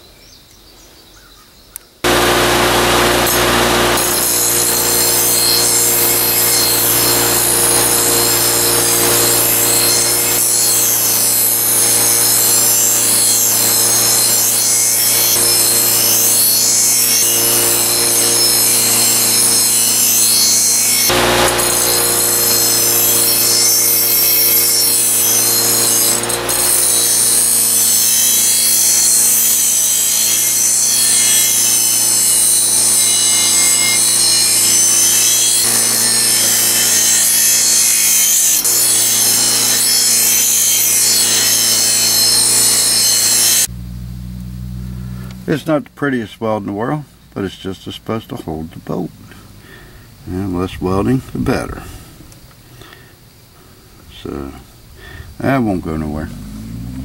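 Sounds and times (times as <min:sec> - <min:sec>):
grinder grinding steel: 0:02.0 - 0:53.1, 0:54.0 - 0:57.0.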